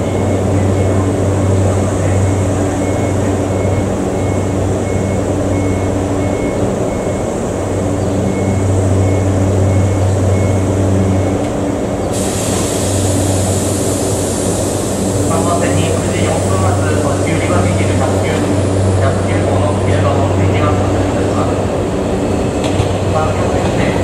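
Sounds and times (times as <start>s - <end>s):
train electrical hum: 0.0s - 24.0s.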